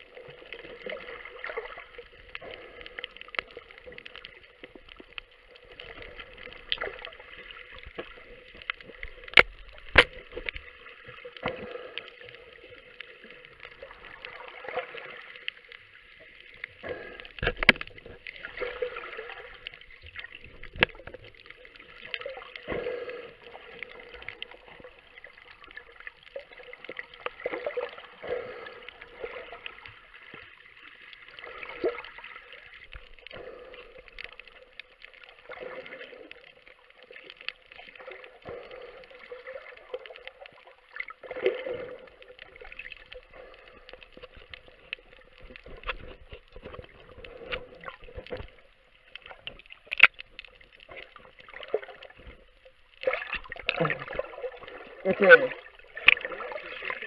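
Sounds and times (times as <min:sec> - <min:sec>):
muffled water gurgling: 0:00.0 - 0:57.0.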